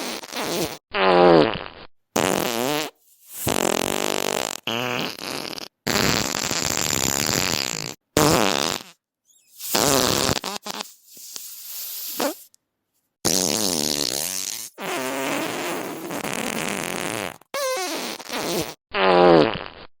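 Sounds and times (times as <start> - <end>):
fart sounds: 0.0 - 12.5, 13.2 - 19.9.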